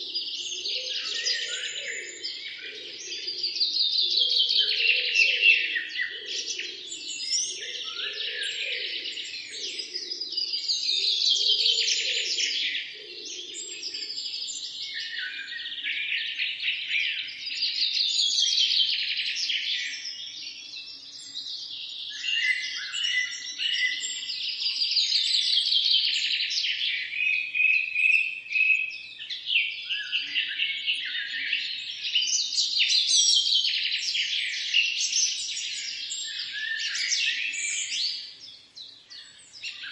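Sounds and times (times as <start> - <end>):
songbirds dawn chorus: 0.0 - 39.9.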